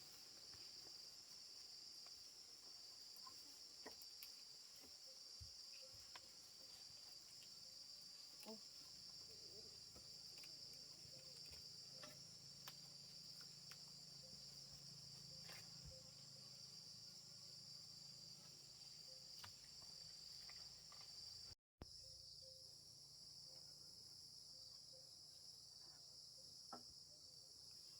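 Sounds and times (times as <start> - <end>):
insect chorus trilling: 0.0 - 27.9.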